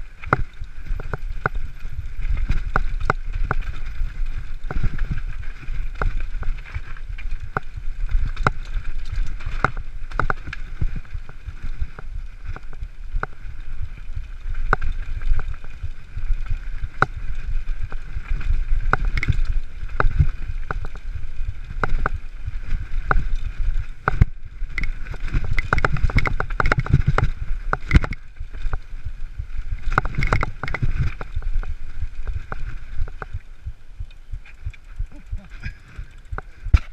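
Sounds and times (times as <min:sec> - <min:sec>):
bike tyres rumbling on dirt: 0:00.0 - 0:36.9
bike clacking and rattling: 0:00.2 - 0:28.9, 0:29.7 - 0:33.4.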